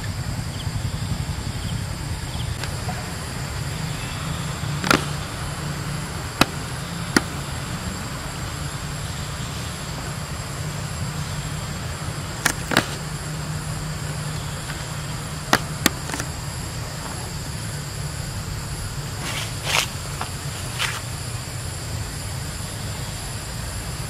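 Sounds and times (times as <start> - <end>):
faint high whine: 0.0 - 24.0.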